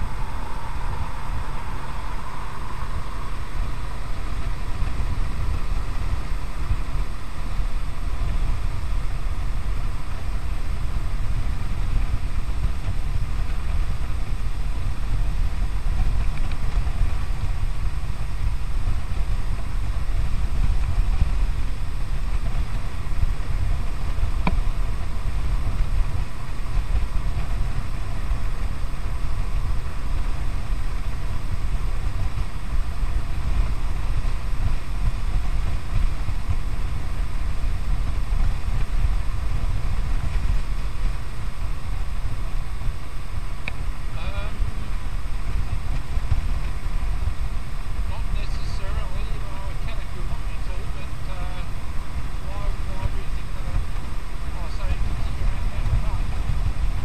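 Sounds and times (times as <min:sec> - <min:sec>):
motorcycle engine low rumble: 0:00.0 - 0:57.0
wind noise on microphone: 0:00.0 - 0:57.0.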